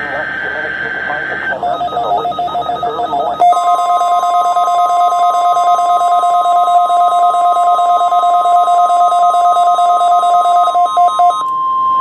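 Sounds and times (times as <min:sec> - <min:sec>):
shrill electronic alarm tone: 0:00.0 - 0:12.0.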